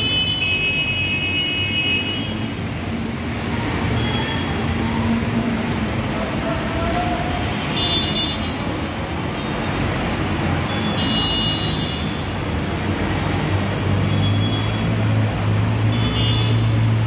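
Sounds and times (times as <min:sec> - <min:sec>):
rain and floodwater rushing: 0:00.0 - 0:17.0.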